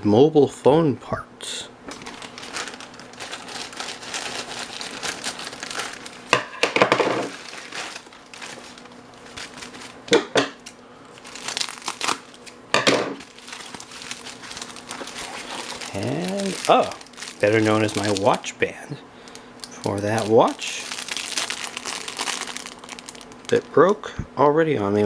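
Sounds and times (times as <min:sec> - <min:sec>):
packaging crinkling and rustling: 0:01.9 - 0:23.9.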